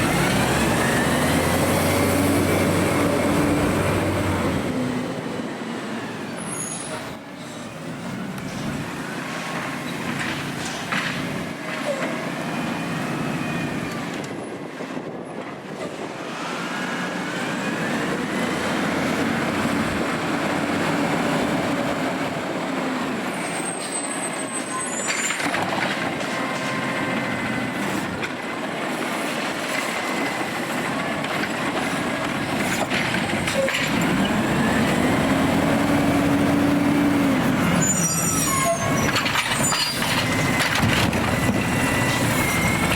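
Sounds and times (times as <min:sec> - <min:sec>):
garbage truck engine: 0:00.0 - 0:42.9.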